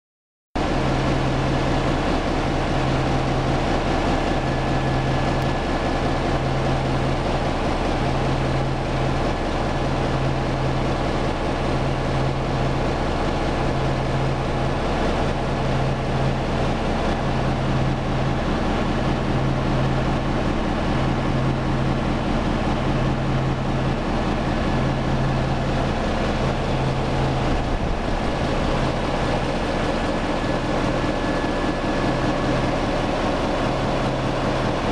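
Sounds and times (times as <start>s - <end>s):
diesel generator droning: 0.6s - 34.9s.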